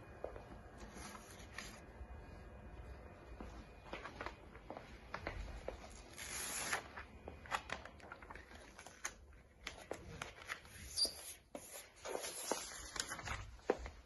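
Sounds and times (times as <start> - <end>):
paper and sticker sheets rustling: 0.5 - 2.4, 4.0 - 14.0.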